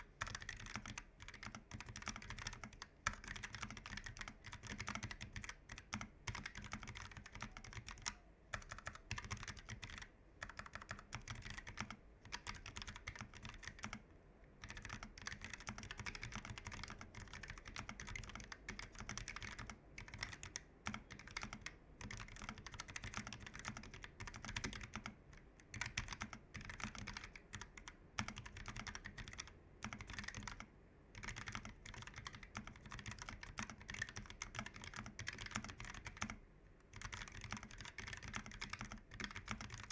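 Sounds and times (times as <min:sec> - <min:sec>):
mechanical keyboard typing: 0:00.0 - 0:14.0, 0:14.6 - 0:39.9.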